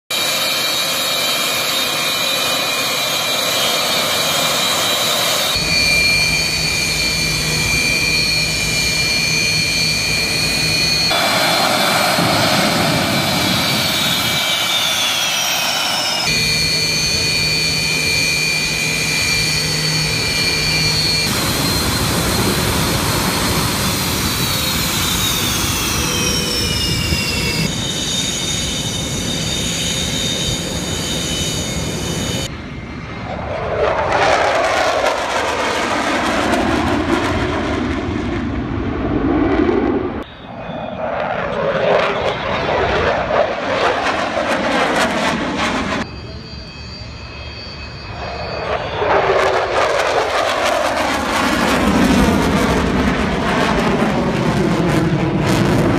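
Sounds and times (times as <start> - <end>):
jet engines whining: 0.1 - 55.9.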